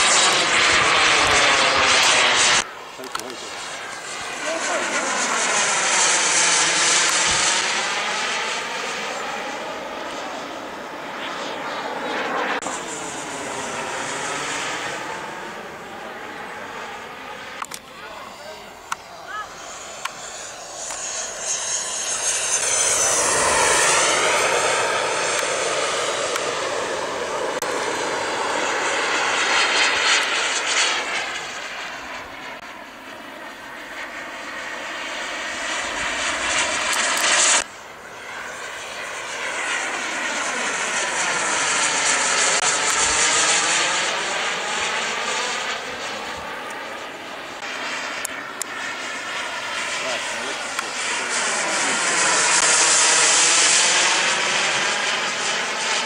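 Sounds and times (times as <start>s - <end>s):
model jet flying past: 0.0s - 56.0s.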